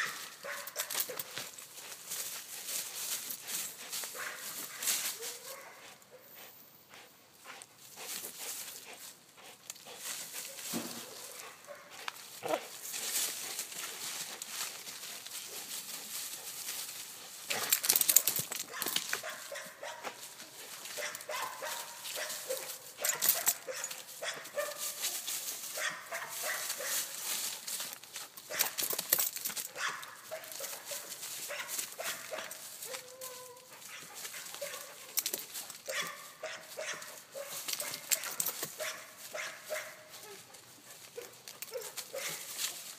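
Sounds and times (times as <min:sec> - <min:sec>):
dry leaves crunching underfoot: 0:00.0 - 0:05.9, 0:09.8 - 0:42.9.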